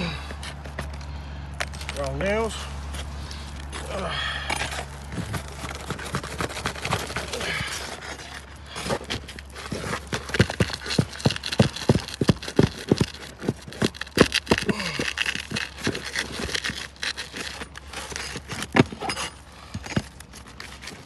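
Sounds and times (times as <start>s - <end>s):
shingles cracking and tearing: 3.2s - 21.0s.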